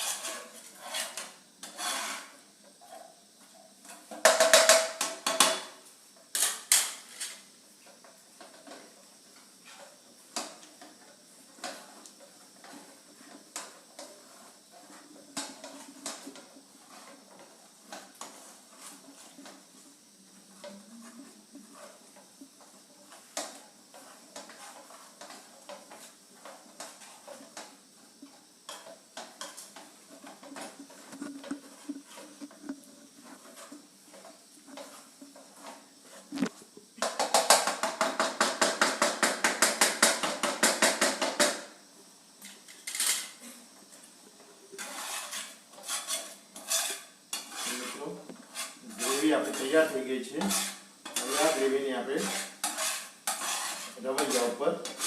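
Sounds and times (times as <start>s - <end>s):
spoon stirring in a pan: 0.0s - 5.5s, 6.3s - 38.7s, 42.9s - 55.0s.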